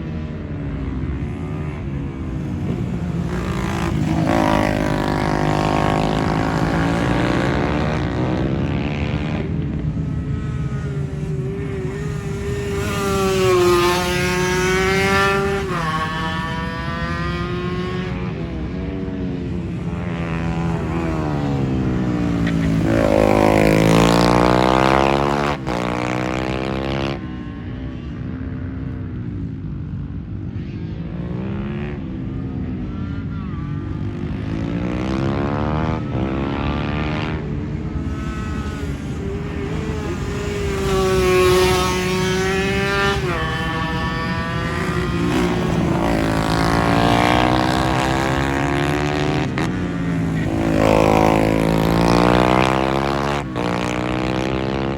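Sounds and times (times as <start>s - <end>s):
motorcycle engines revving past: 0.0s - 54.9s.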